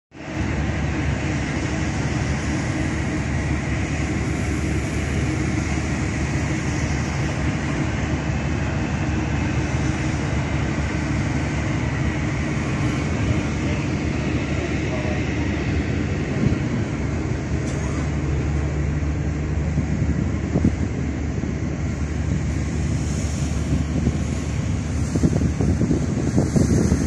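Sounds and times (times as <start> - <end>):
constant rushing hiss: 0.1 - 27.0
ship engine drone: 0.1 - 27.0.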